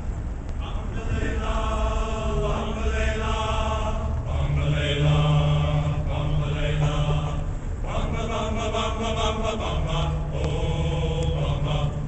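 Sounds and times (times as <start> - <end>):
men's chorus singing in harmony: 0.6 - 12.0.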